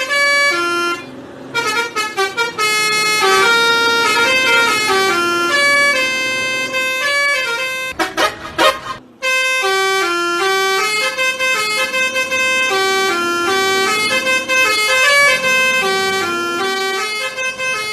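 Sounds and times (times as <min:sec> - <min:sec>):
musical vehicle horn melody: 0:00.0 - 0:17.9.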